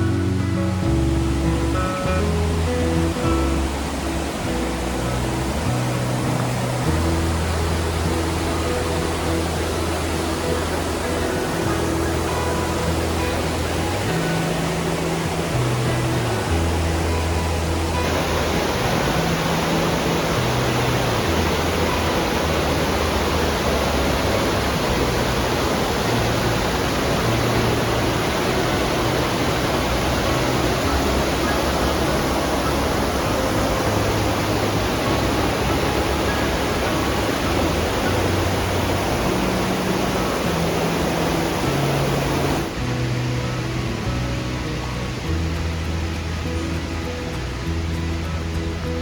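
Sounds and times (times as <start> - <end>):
mountain stream rushing: 0.0 - 49.0
music with slow bass line: 0.0 - 49.0.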